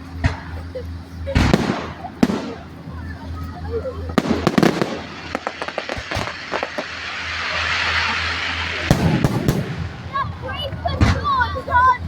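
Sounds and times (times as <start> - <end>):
fireworks crackling hiss: 0.0 - 12.0
fireworks loud bangs: 0.0 - 12.0
fireworks crackling pops: 1.4 - 11.8.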